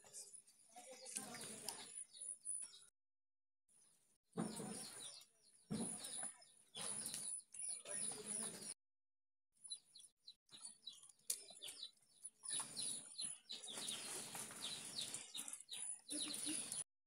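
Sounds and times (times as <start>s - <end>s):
birds chirping: 0.0s - 2.9s, 3.7s - 8.8s, 9.6s - 16.9s.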